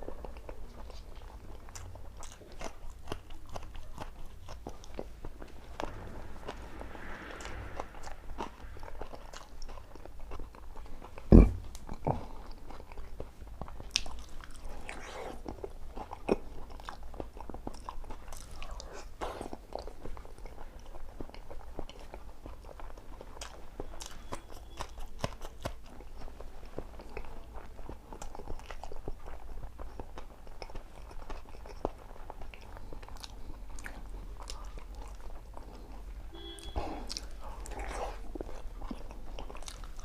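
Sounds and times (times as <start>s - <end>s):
person chewing crunchy food: 0.0s - 7.0s, 8.4s - 40.0s.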